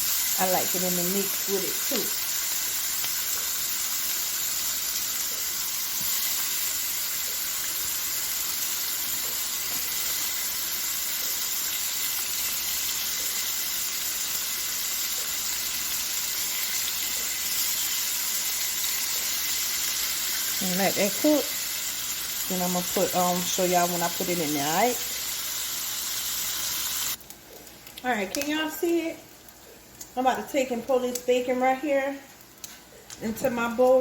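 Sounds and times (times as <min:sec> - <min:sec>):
bacon sizzling in a pan: 0:00.0 - 0:34.0.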